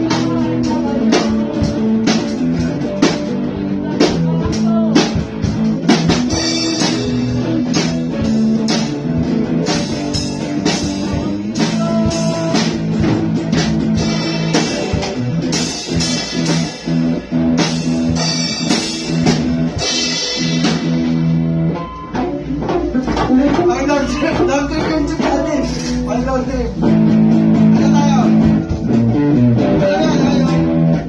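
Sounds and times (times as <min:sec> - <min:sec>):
bass: 0:00.0 - 0:31.0
drum kit beat: 0:00.0 - 0:31.0
guitar chords: 0:00.0 - 0:31.0.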